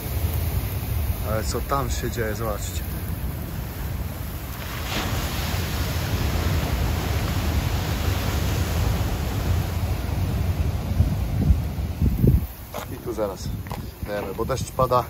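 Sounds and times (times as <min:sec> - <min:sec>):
ocean waves breaking on rocks: 0:00.0 - 0:15.0.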